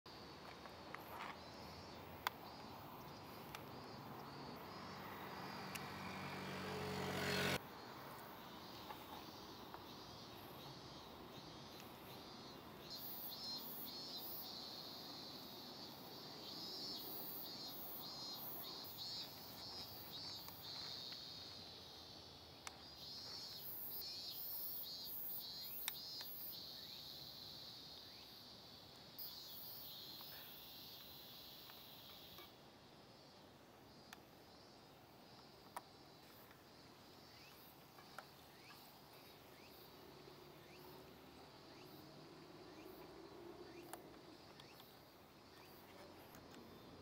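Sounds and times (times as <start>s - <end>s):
insects trilling: 0.1s - 47.0s.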